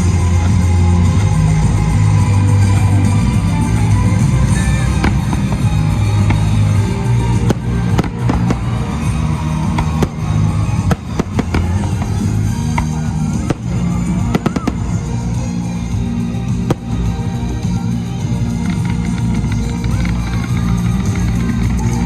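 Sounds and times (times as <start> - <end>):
fireworks bangs and cracks: 0.0 - 22.0
loud music with heavy bass: 0.0 - 22.0.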